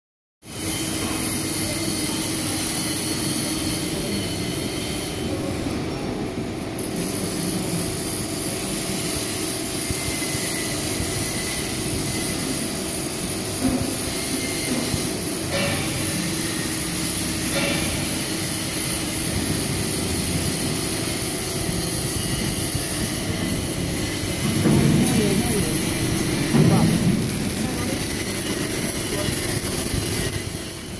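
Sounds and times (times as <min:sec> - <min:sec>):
hydraulic machine humming: 0:00.5 - 0:30.9.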